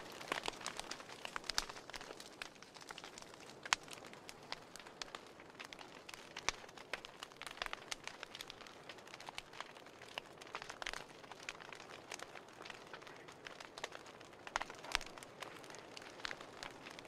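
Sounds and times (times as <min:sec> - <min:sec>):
paper burning and crackling: 0:00.0 - 0:17.0.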